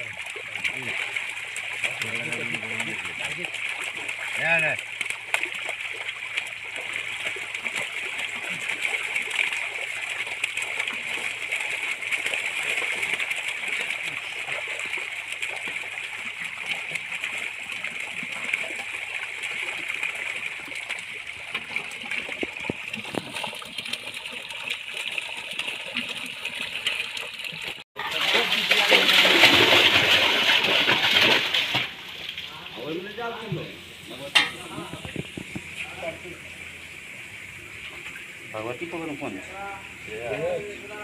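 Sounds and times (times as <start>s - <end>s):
fish thrashing in water: 0.0s - 33.0s, 33.8s - 38.6s
crackle of small splashes: 0.0s - 41.0s.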